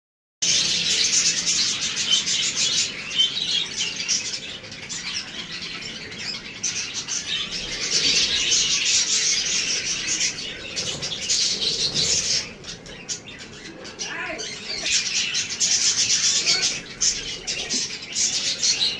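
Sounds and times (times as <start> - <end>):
budgerigars chattering and chirping: 0.4 - 18.9.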